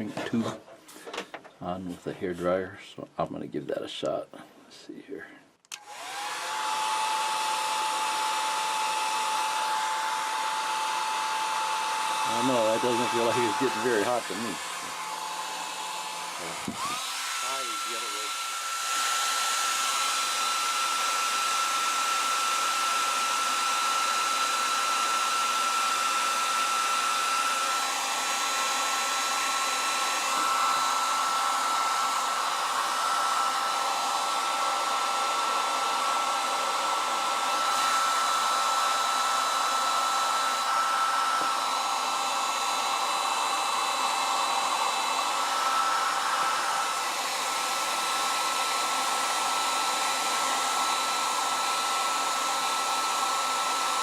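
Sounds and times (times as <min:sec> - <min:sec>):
hair dryer running: 0:05.7 - 0:54.0.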